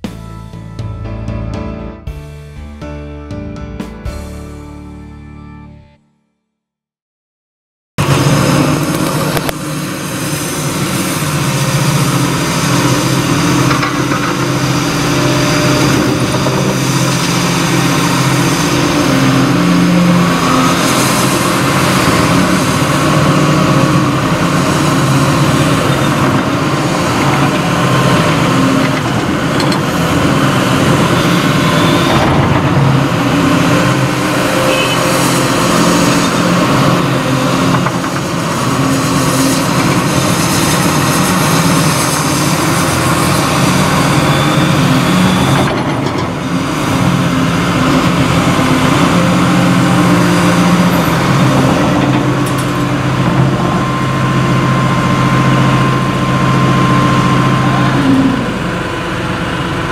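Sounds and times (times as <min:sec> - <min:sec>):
excavator diesel engine running: 0:08.0 - 0:59.9.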